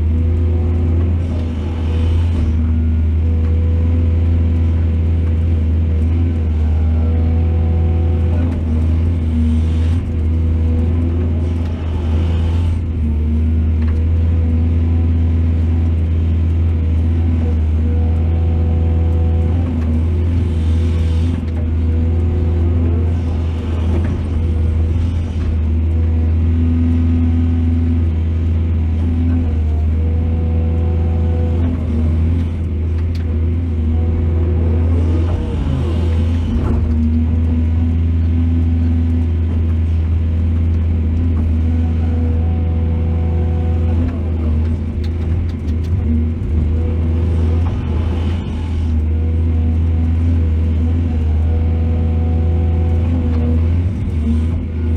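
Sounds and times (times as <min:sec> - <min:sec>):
excavator diesel engine rumbling: 0:00.0 - 0:54.9.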